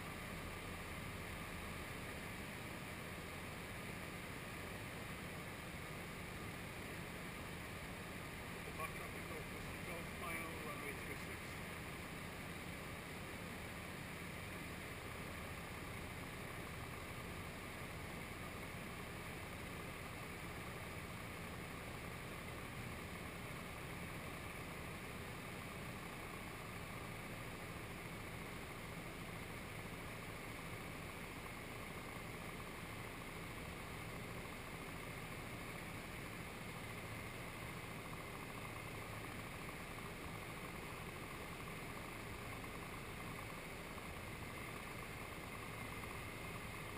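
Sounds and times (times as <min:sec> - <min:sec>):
aircraft engine and propeller: 0:00.0 - 0:46.9.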